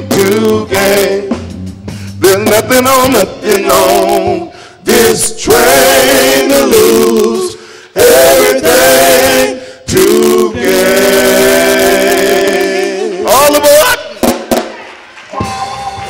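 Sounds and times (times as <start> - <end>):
vocal group singing in harmony: 0.0 - 13.6.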